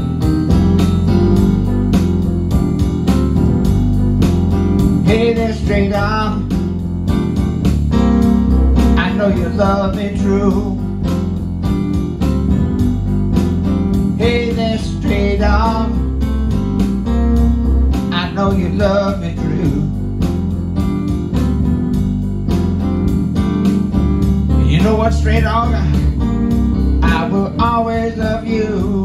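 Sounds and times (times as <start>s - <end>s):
bass and drum backing: 0.0s - 29.0s
keyboard lead with guitar voice: 0.0s - 29.0s.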